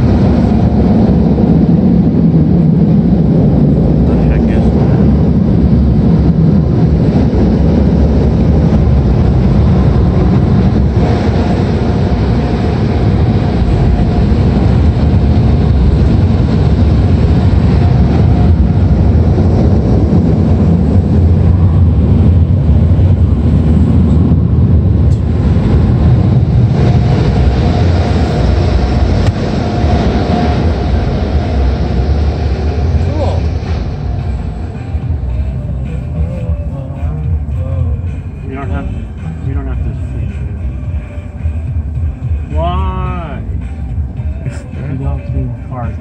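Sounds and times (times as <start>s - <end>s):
car wash equipment roaring: 0.0s - 46.0s.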